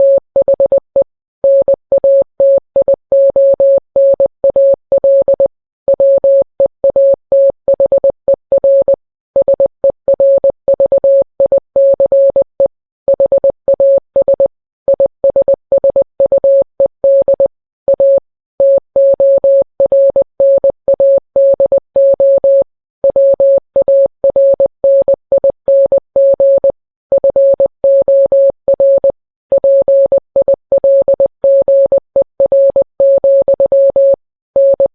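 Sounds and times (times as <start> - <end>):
morse code beeps: 0.0 - 34.9.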